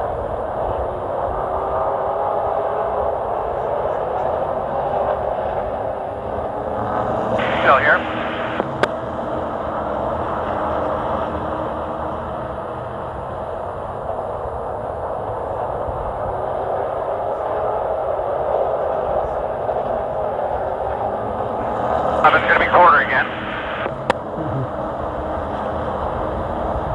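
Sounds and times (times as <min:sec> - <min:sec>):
race truck engine droning: 0:00.0 - 0:26.9.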